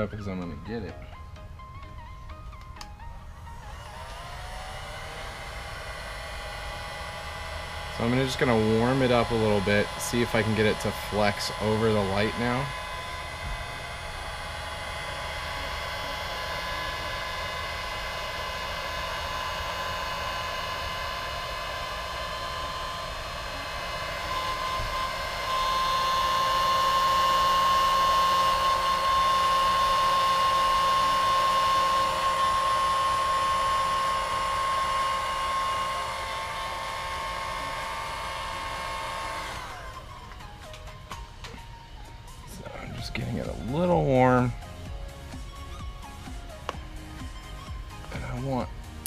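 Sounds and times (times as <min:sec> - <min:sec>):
heat gun fan whine and rushing air: 0:00.0 - 0:49.0.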